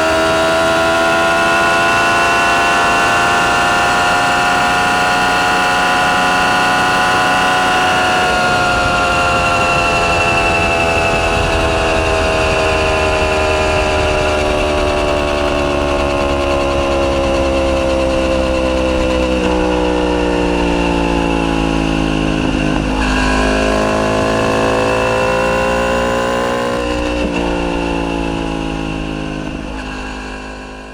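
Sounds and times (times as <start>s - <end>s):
motorcycle engine exhaust note: 0.0s - 30.9s.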